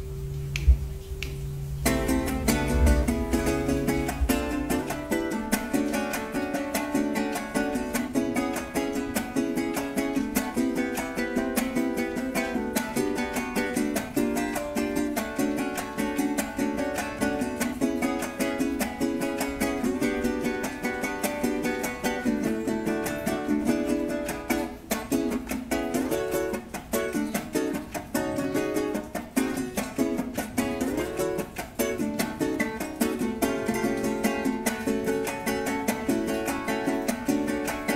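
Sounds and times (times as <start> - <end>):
fast strummed cuatro: 1.8 - 37.9.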